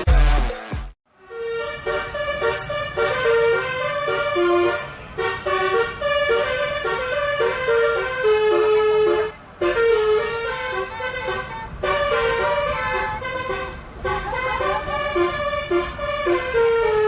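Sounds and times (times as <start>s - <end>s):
air horns tooting a melody: 1.1s - 17.0s.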